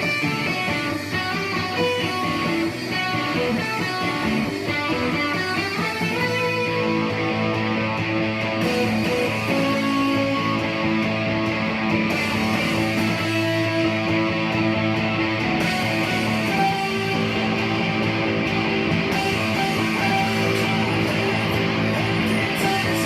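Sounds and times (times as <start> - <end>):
electric guitar solo: 0.0 - 23.0.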